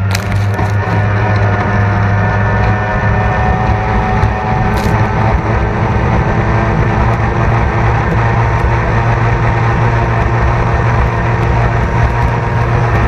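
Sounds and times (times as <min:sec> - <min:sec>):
two-stroke outboard engine running: 0:00.0 - 0:13.0.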